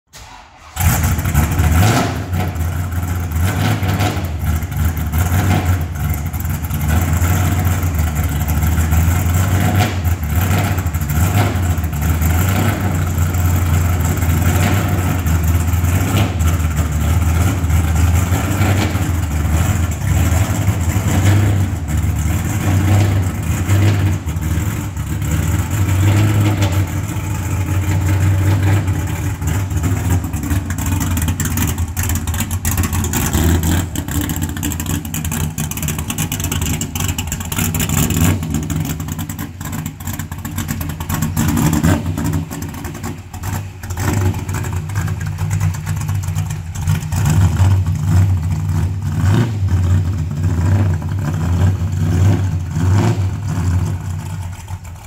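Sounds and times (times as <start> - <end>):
car engine starting and idling: 0.0 - 55.0.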